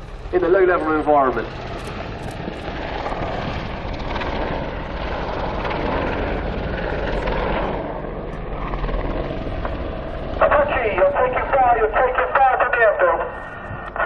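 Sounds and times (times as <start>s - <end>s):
helicopter flying low: 0.0s - 14.0s.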